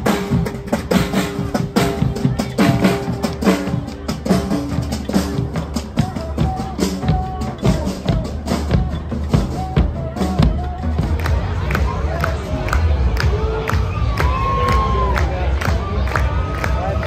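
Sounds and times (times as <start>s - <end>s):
marching drum band: 0.0s - 17.0s.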